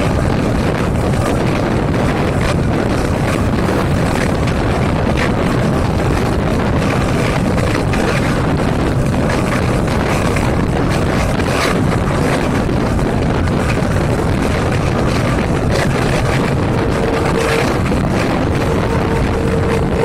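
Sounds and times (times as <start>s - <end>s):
diesel train engine running: 0.0s - 20.0s
wind on microphone: 0.0s - 20.0s.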